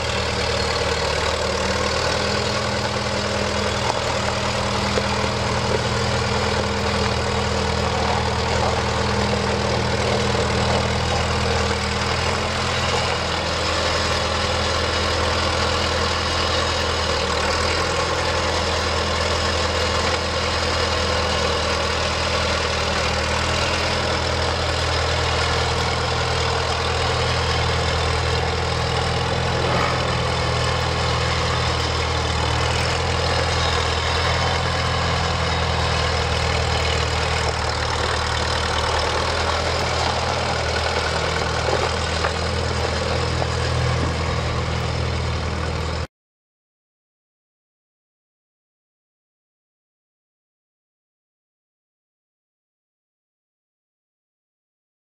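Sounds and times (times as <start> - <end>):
tractor engine running: 0.0 - 46.1.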